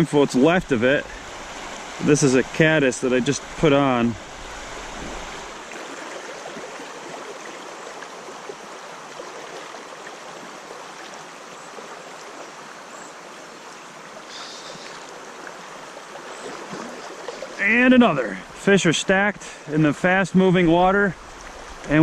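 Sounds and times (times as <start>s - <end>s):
river water rushing: 0.0s - 19.8s, 20.7s - 22.0s.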